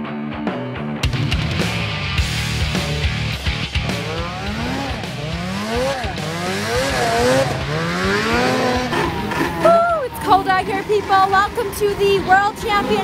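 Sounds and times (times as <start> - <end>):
snowmobile engines revving: 2.2 - 13.0.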